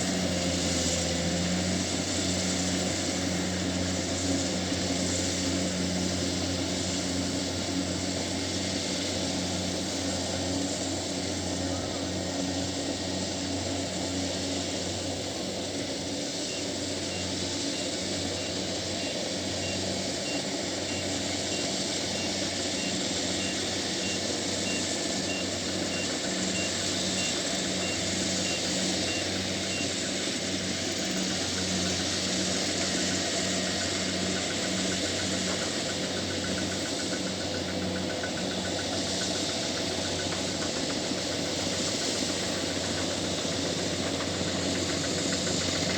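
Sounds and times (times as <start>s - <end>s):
combine harvester diesel engine: 0.0s - 45.9s.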